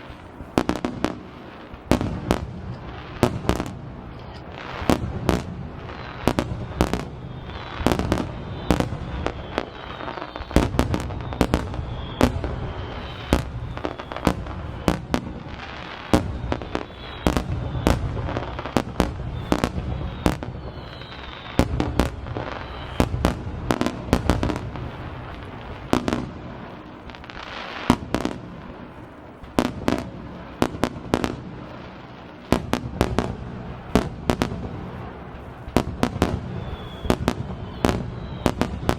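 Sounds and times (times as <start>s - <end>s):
firework whistles: 0.0s - 38.9s.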